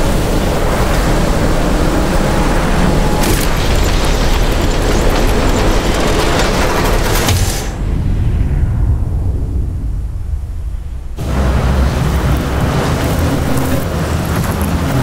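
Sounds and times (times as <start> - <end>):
heavy machinery rumble with grinding: 0.0 - 10.5, 11.2 - 15.0.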